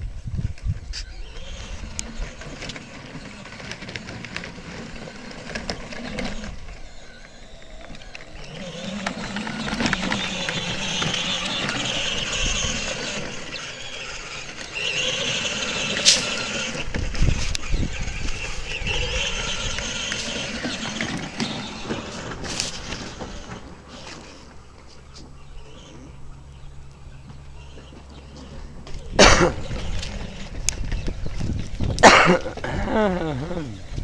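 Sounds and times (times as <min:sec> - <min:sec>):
toy atv electric motors whining: 0:00.1 - 0:34.0.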